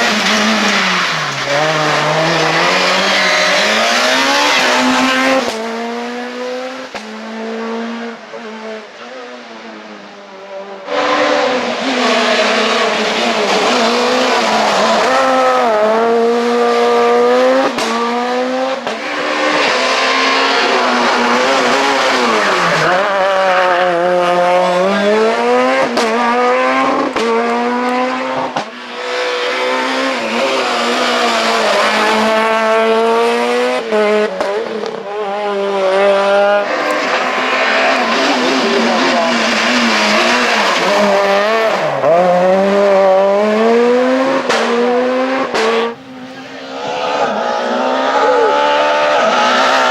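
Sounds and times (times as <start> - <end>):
rally car engine revving hard: 0.0 - 49.9.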